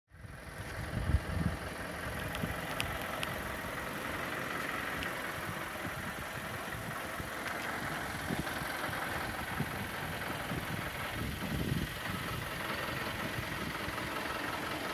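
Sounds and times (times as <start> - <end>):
diesel engine idling: 0.1 - 14.9.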